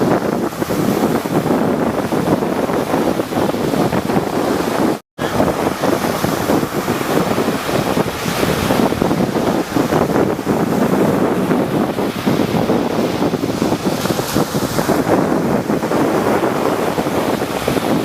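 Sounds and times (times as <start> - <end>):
sea waves surging and breaking: 0.0 - 18.0
wind buffeting microphone: 0.0 - 18.0.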